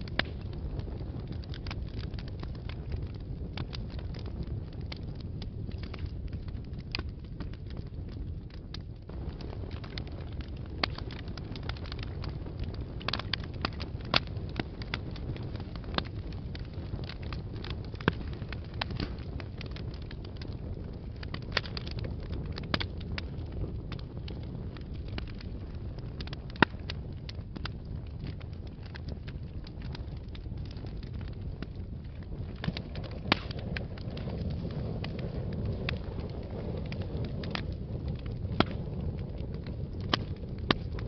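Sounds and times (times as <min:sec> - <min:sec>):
fire crackling and popping: 0:00.0 - 0:41.0
fire flames rumbling: 0:00.0 - 0:41.0.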